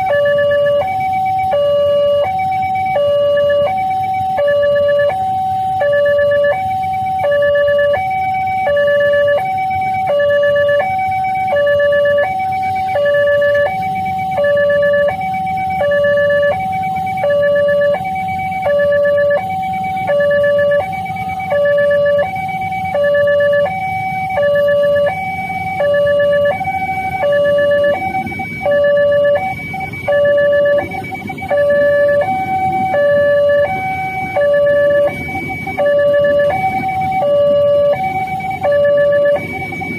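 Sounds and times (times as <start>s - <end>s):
level-crossing two-tone alarm: 0.0s - 39.9s.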